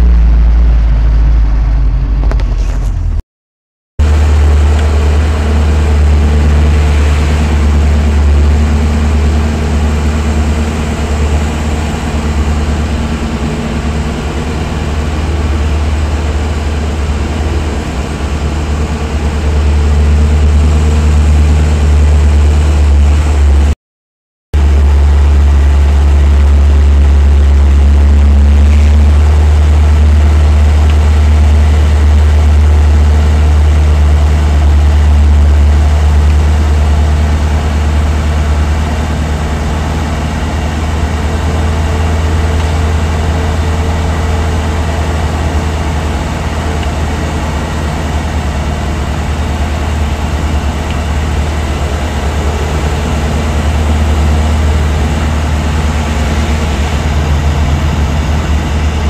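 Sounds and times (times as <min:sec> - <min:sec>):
vehicle engine and road rumble: 0:00.0 - 0:03.2, 0:04.0 - 0:23.8, 0:24.6 - 0:59.0.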